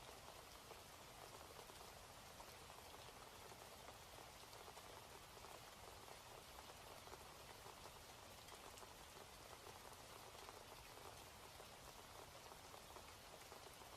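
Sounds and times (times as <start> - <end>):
faint rain patter: 0.0 - 13.9.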